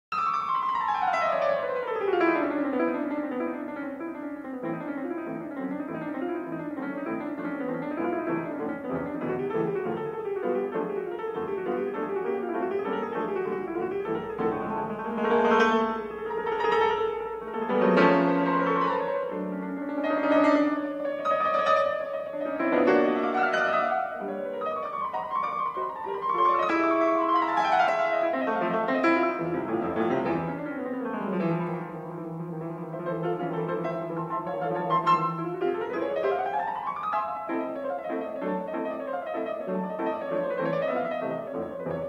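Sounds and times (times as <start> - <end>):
piano music: 0.1 - 42.0.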